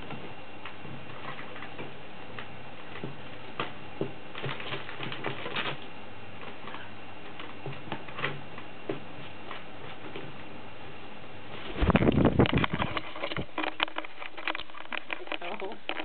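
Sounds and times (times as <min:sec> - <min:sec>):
parrot rummaging through paper: 0:00.9 - 0:10.4, 0:11.4 - 0:16.0.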